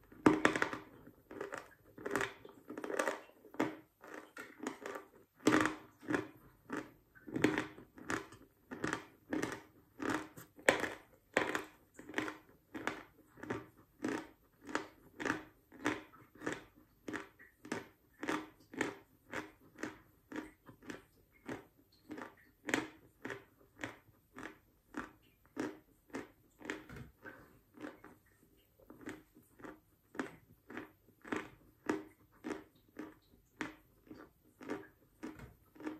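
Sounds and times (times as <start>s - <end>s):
person chewing chalk: 0.1s - 35.9s.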